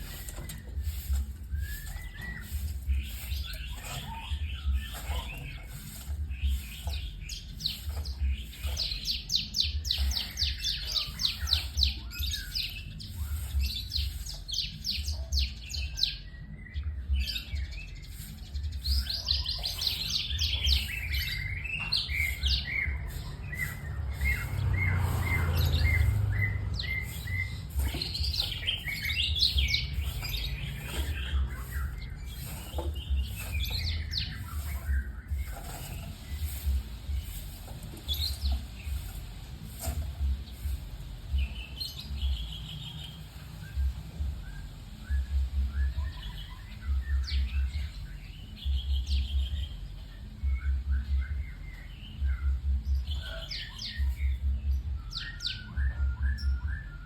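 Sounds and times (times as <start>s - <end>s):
bird singing trills and whistles: 0.0s - 57.0s.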